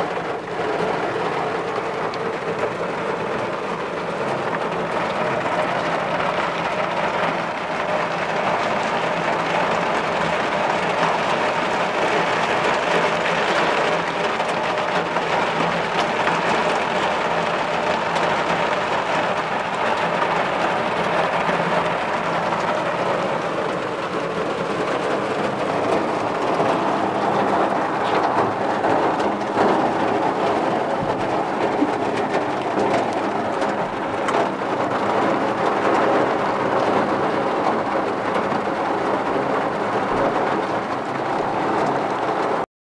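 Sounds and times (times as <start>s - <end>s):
heavy rain on vehicle roof: 0.0s - 42.7s.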